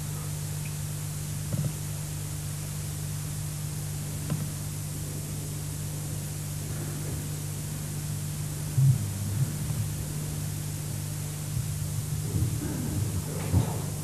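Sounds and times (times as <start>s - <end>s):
recording hiss and hum: 0.0s - 14.0s.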